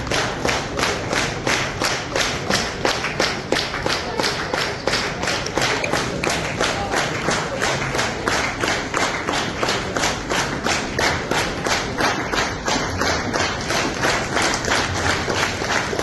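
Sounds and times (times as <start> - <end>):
crowd clapping in unison: 0.0 - 16.0.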